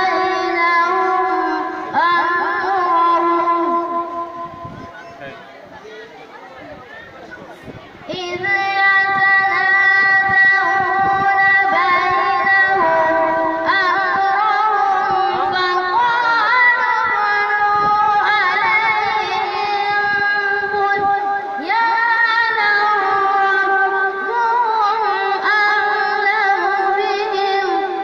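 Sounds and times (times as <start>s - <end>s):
boy chanting through a microphone: 0.0s - 28.0s.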